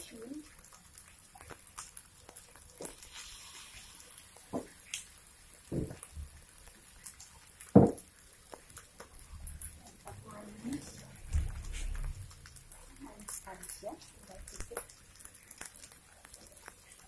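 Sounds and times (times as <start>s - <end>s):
rice frying in a wok: 0.0s - 17.0s.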